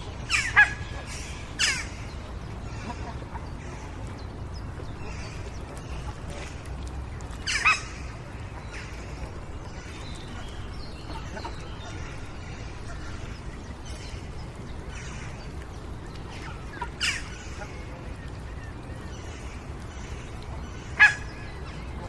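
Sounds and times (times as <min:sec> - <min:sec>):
birdsong: 0:00.0 - 0:22.0.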